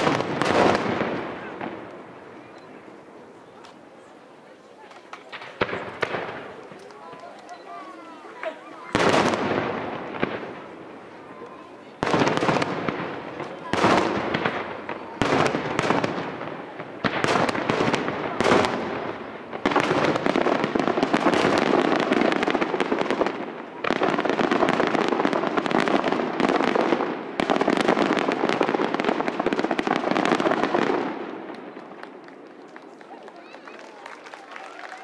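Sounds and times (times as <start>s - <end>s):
firework bangs: 0.0s - 2.8s, 4.8s - 35.0s
firework crackling: 0.0s - 35.0s.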